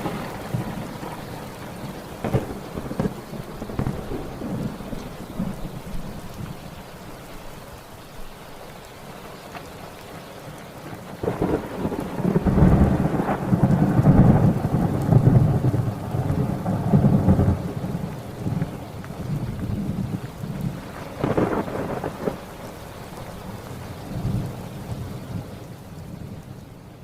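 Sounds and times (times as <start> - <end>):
thunder rumbling: 0.0 - 6.8, 11.0 - 26.5
rain falling: 0.0 - 27.0.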